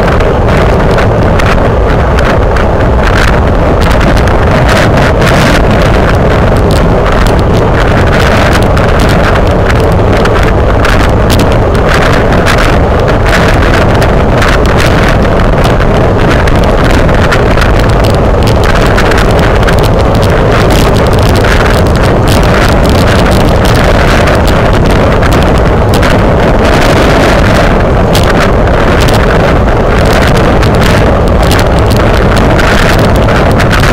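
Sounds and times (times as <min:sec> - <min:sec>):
wind buffeting on microphone: 0:00.0 - 0:33.9.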